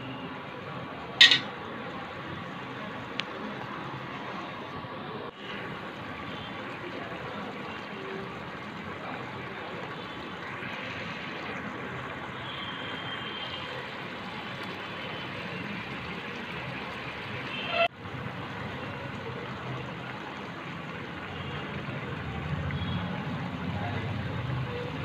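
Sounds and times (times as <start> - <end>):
curry bubbling in a pan: 0.2 - 25.0.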